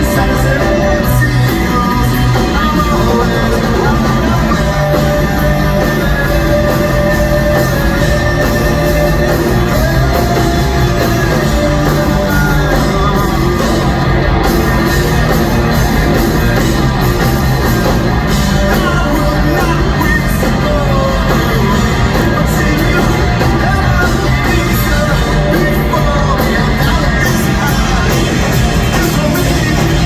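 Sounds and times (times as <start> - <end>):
live rock band playing: 0.0 - 30.0
man singing: 0.0 - 30.0.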